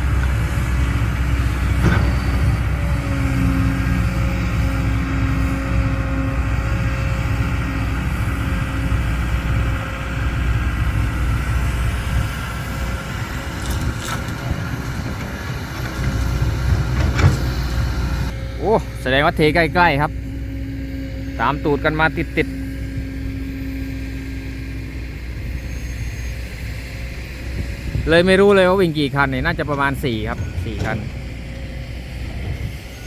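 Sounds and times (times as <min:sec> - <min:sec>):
road noise rumble: 0:00.0 - 0:33.0
vehicle engine running: 0:00.0 - 0:33.0.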